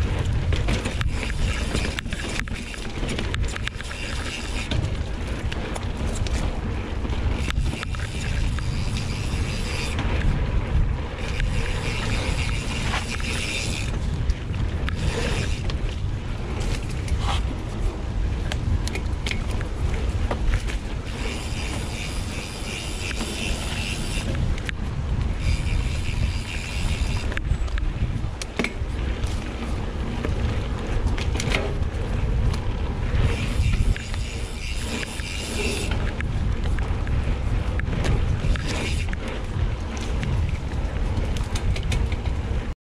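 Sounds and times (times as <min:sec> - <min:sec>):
tyres on dirt: 0:00.0 - 0:42.7
bike rattling and clicking: 0:00.0 - 0:42.8
wind rushing over microphone: 0:00.0 - 0:42.8.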